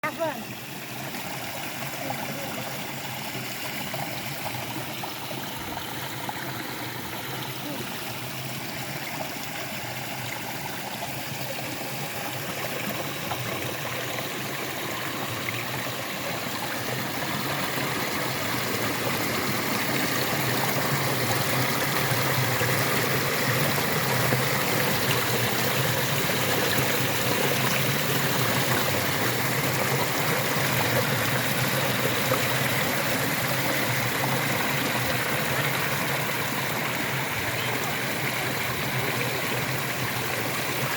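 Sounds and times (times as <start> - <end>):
stream flowing at waterfall: 0.0 - 40.9.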